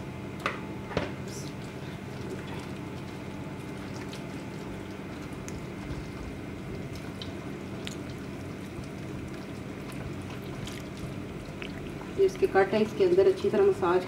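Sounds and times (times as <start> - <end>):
steady low hum: 0.0 - 14.0
wet squishing of hand rubbing meat: 1.3 - 13.8.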